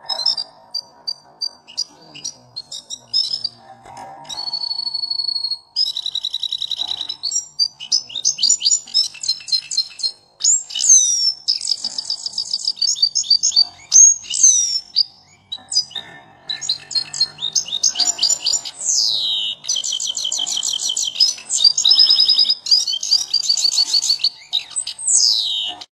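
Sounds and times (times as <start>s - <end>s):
canary singing trills: 0.0s - 25.9s.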